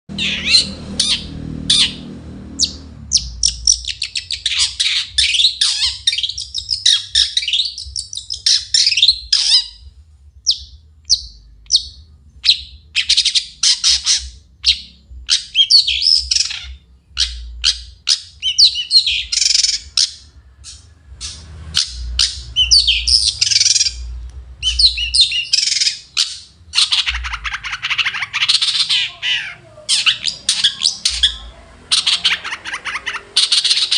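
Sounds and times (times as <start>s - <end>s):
bird singing harsh chattering song: 0.1s - 33.9s.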